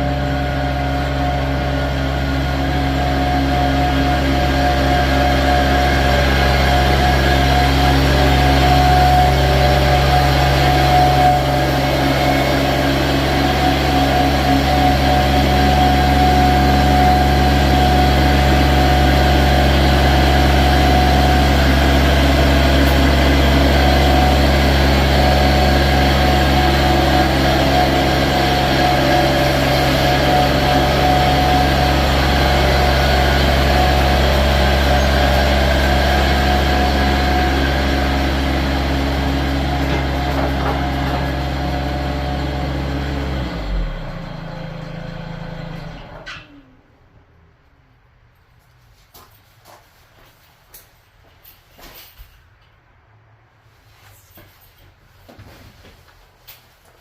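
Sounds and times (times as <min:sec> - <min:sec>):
machine drone: 0:00.0 - 0:46.9.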